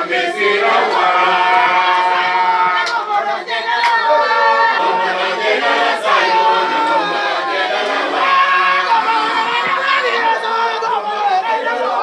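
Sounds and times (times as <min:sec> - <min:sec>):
congregation singing: 0:00.0 - 0:12.0.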